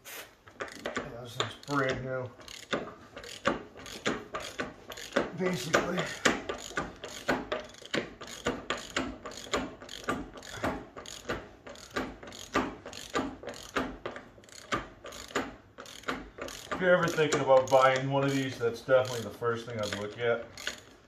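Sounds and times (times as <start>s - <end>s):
ratchet wrench clicking: 0.6s - 21.0s.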